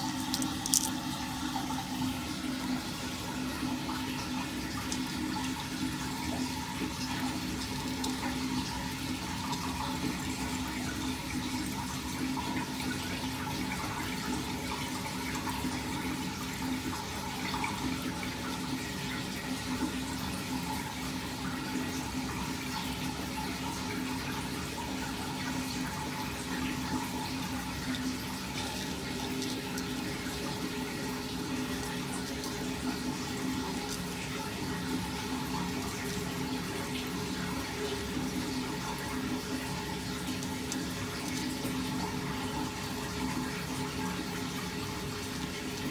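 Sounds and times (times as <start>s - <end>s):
water draining down sink: 0.0s - 45.9s.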